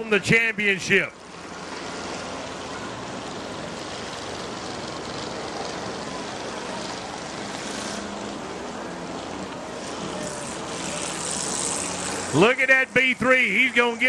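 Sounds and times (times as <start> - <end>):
faint low engine drone: 0.0 - 14.0
race car engines: 0.0 - 14.0.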